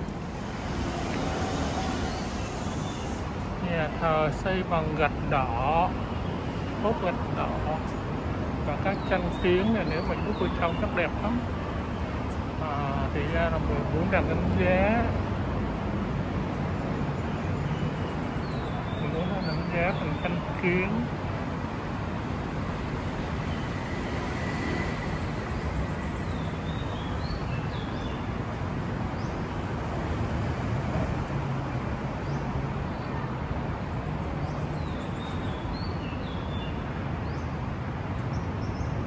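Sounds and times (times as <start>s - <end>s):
city road traffic hum: 0.0s - 39.0s.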